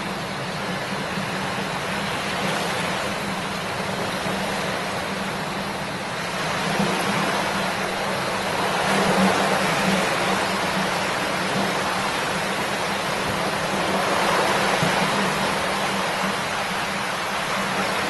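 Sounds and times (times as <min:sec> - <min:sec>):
river flowing over stones: 0:00.0 - 0:18.0.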